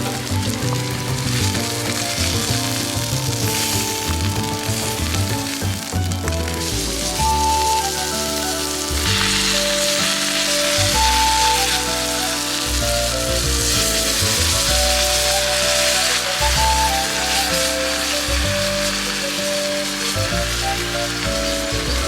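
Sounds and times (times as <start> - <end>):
background music: 0.0 - 22.0
food sizzling in a skillet: 0.0 - 22.0.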